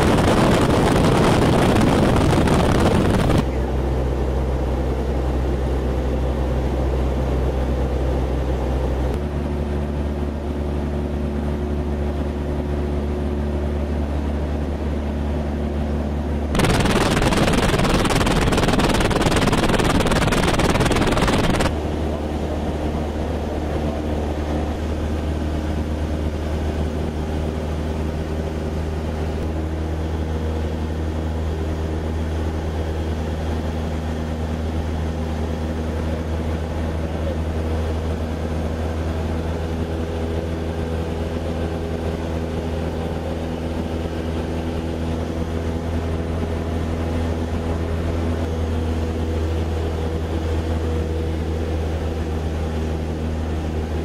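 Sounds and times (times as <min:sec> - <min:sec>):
plane engine droning in cabin: 0:00.0 - 0:54.0.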